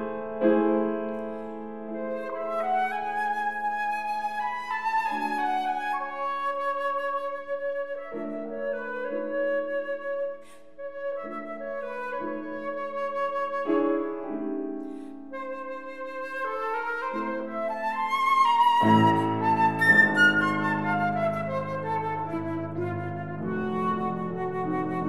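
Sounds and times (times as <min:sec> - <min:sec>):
flute melody: 0:00.0 - 0:25.0
piano chords: 0:00.0 - 0:25.0.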